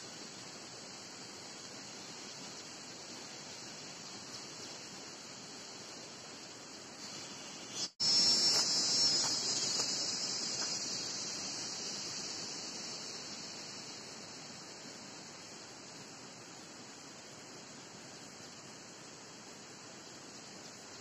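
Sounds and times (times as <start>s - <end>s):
insects buzzing: 0.0s - 21.0s.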